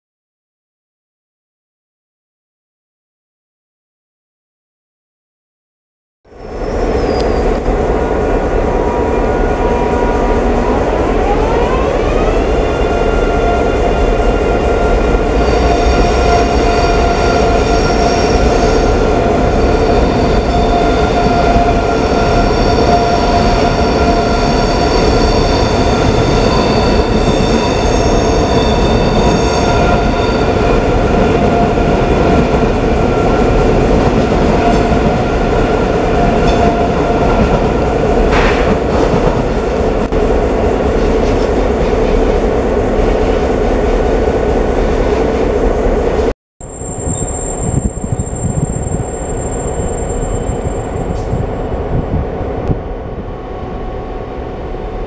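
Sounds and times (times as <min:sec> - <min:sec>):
electric train humming and whining: 0:06.3 - 0:55.0.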